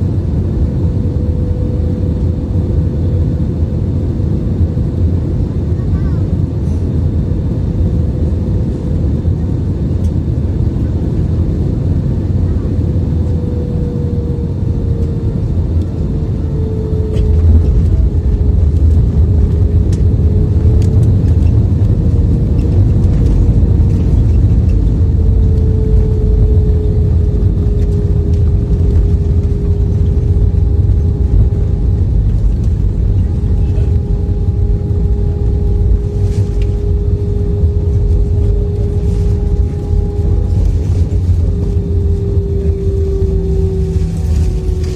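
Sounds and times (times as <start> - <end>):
jet engine cabin rumble: 0.0 - 44.9.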